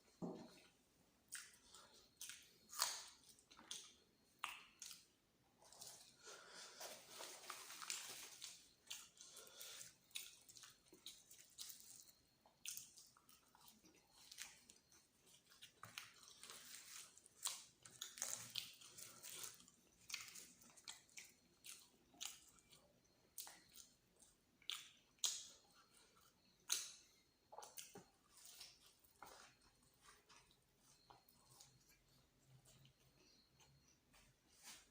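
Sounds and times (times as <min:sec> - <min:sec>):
close chewing with wet clicks: 0:01.2 - 0:06.1, 0:07.9 - 0:33.9.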